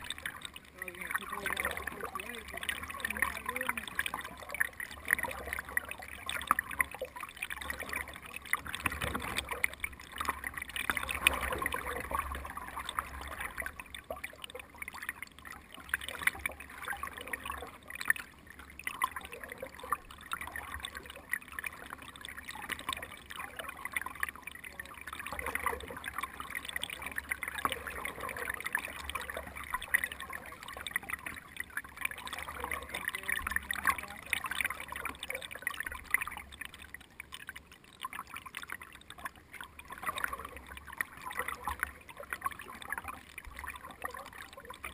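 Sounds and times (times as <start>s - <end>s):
water splashing and trickling: 0.0s - 44.9s.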